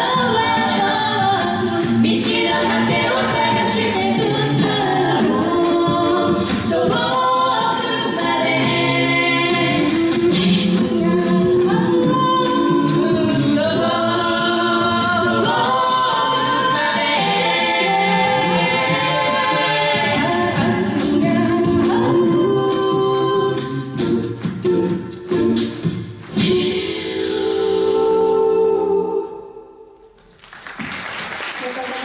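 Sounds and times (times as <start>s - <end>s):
a cappella group singing in harmony: 0.0s - 30.2s.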